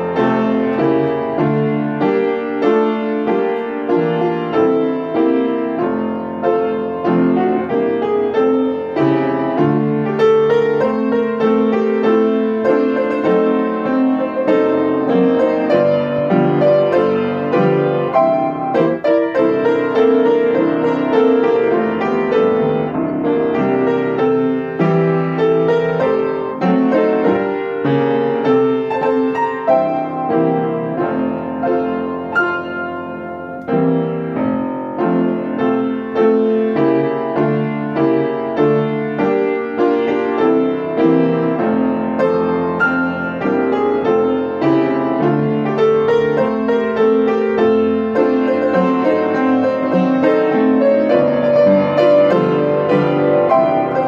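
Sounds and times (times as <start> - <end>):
piano playing hymn chords: 0.0 - 54.0.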